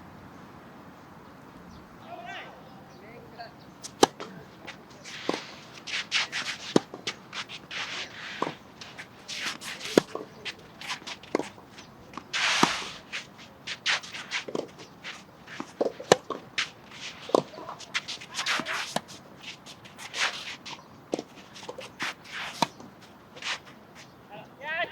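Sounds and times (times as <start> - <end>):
tennis ball hits: 3.8 - 23.8
shoe scuffs and footsteps: 3.8 - 24.2.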